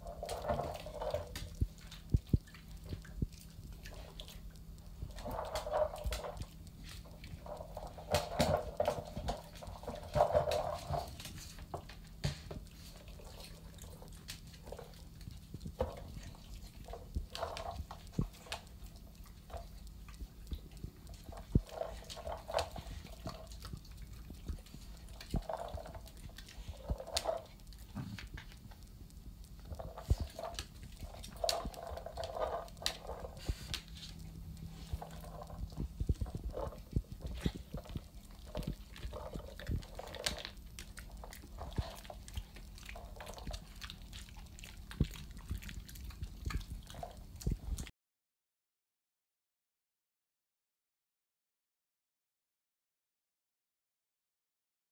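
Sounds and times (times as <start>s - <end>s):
dog paws tapping on tiles: 0.0s - 47.9s.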